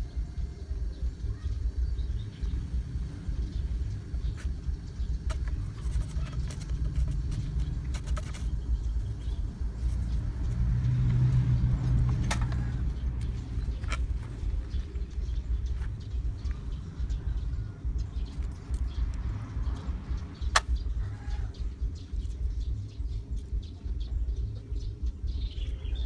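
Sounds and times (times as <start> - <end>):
deep hum: 0.0 - 26.0
steady low rumble: 0.0 - 26.0.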